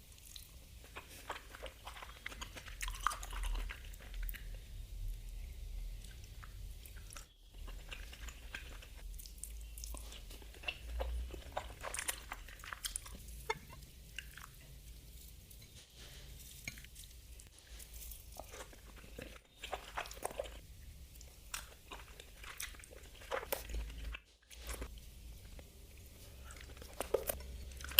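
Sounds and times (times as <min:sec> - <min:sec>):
wet chewing with crackly clicks: 0:00.0 - 0:15.8, 0:16.6 - 0:27.9.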